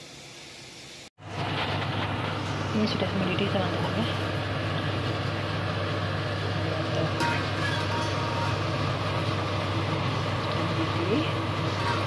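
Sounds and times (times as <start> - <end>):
gas flame hum: 0.0 - 12.0
water boiling and bubbling: 0.0 - 12.0.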